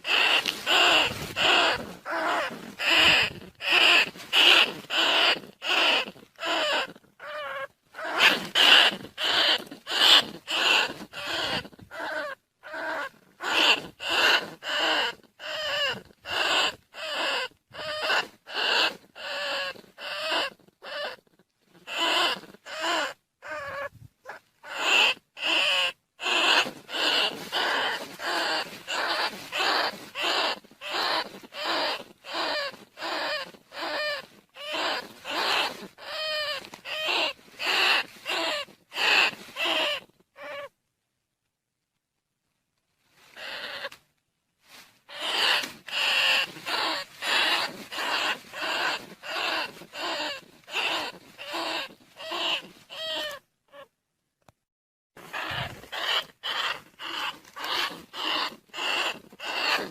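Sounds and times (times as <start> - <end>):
rat squeaks: 0.0 - 40.7, 43.3 - 44.0, 45.1 - 53.9, 55.2 - 59.9.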